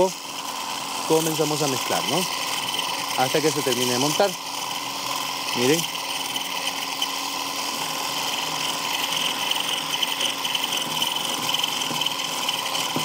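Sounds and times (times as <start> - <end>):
stick blender motor whir: 0.0 - 13.0.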